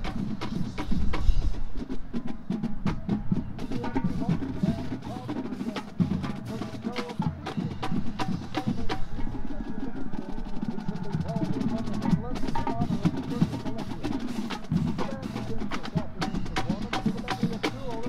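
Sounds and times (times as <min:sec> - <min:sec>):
marching band drums: 0:00.0 - 0:18.0.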